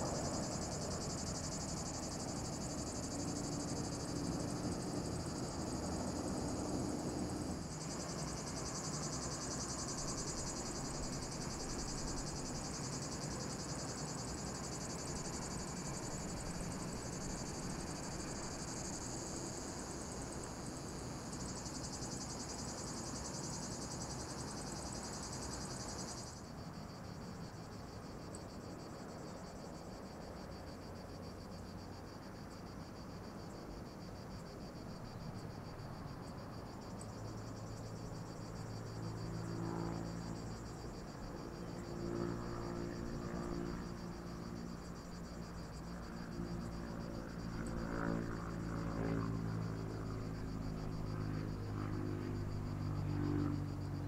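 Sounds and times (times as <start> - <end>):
cicadas buzzing: 0.0 - 29.6, 30.2 - 54.0.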